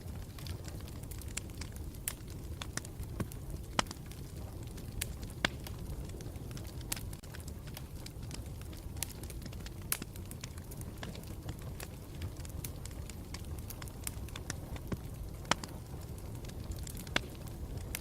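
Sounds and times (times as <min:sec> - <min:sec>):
campfire crackling: 0:00.0 - 0:18.0
fire pops: 0:00.0 - 0:18.0.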